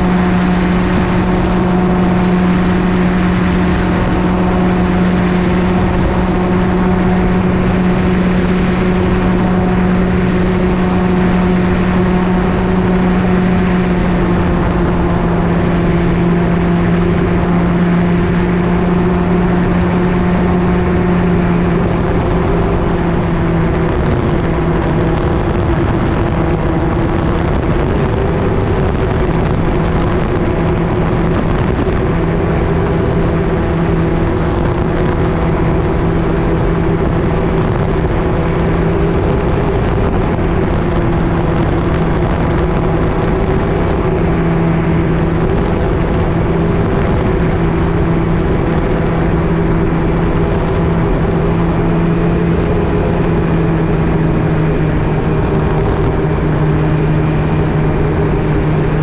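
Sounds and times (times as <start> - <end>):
propeller engine droning: 0.0 - 59.0
rushing air: 0.0 - 59.0.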